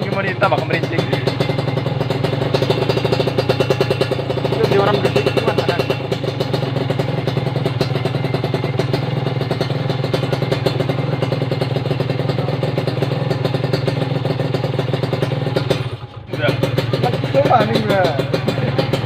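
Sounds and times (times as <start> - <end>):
two-stroke motorcycle engine idling: 0.0 - 19.0.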